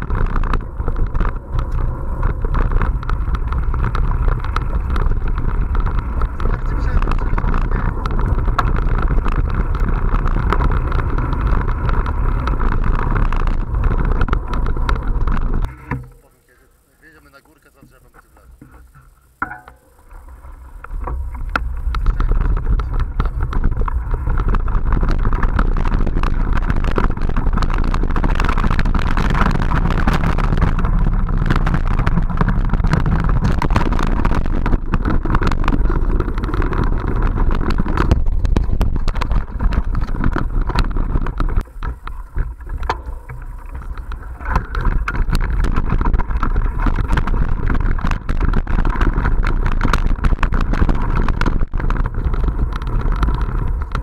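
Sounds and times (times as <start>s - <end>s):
wind buffeting microphone: 0.0s - 15.8s, 20.2s - 54.0s
mountain bike clattering on trail: 0.0s - 54.0s.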